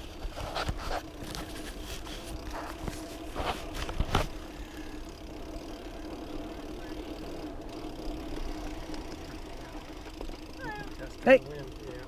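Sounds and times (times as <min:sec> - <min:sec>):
mountain bike rolling on dirt: 0:00.0 - 0:12.0.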